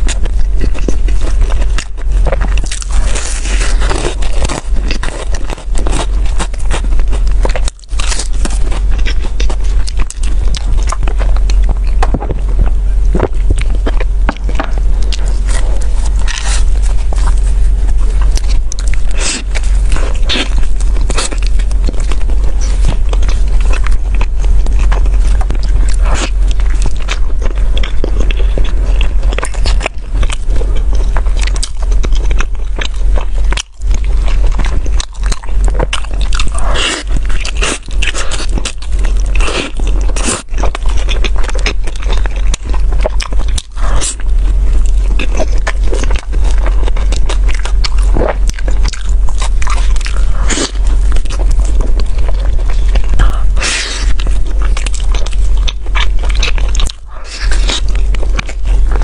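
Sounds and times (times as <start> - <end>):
biting and chewing food: 0.0 - 59.0
steady low hum: 0.0 - 59.0.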